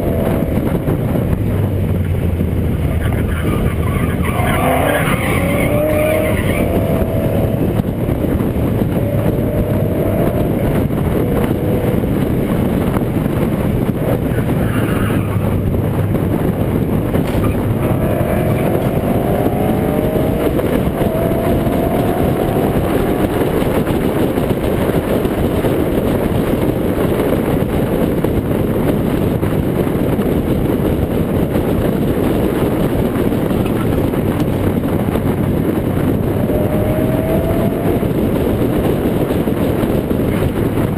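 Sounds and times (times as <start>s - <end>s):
faint car engine accelerating: 0.0s - 26.9s, 33.2s - 40.9s
wind roar: 0.0s - 40.9s.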